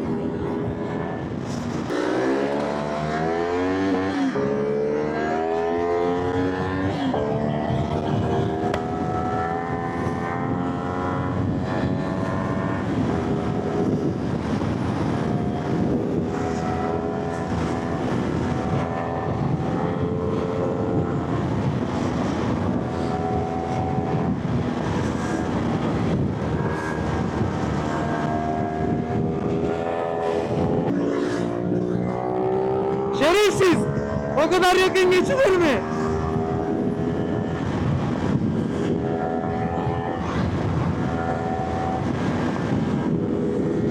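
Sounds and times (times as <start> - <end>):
wind and road noise: 0.0 - 43.9.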